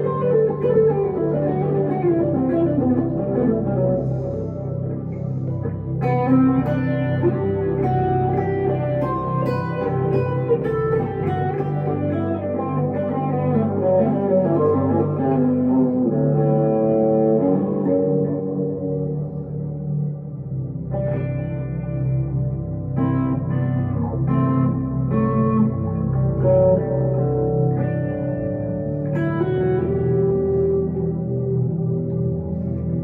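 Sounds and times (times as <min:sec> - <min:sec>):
electric guitar lead melody: 0:00.0 - 0:33.0.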